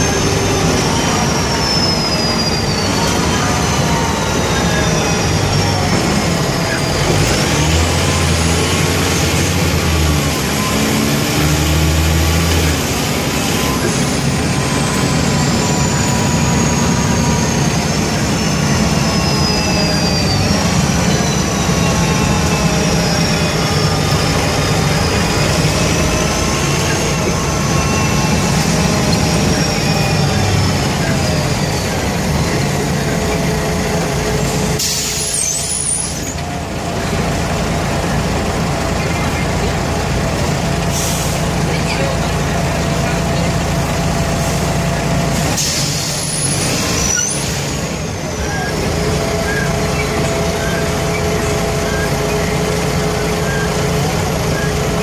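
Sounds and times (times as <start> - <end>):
diesel bus engine drone: 0.0 - 55.0
high engine whine: 0.0 - 55.0.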